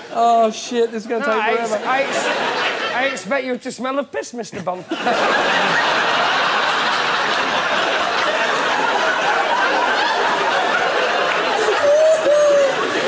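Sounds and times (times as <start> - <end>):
audience laughing: 1.1 - 3.5, 4.6 - 13.0.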